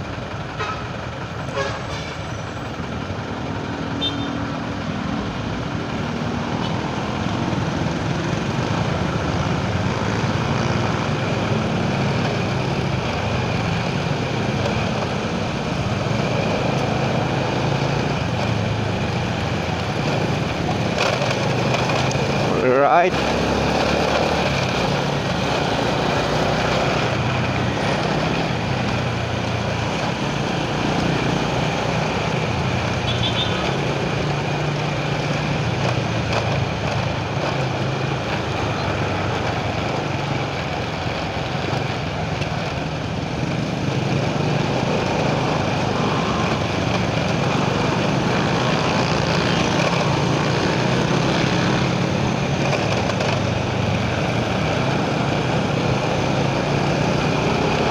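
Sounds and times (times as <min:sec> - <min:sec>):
road noise: 0:00.0 - 0:57.9.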